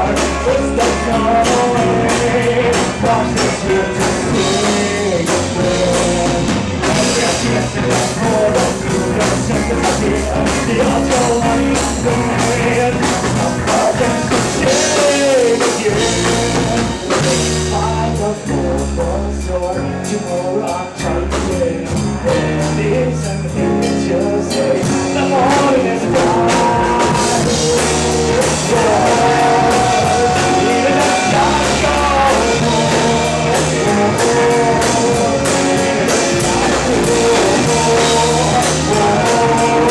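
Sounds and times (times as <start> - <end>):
drum kit: 0.0 - 19.2, 20.0 - 39.9
bass guitar: 0.0 - 39.9
electric guitars: 0.0 - 39.9
person singing: 0.0 - 39.9.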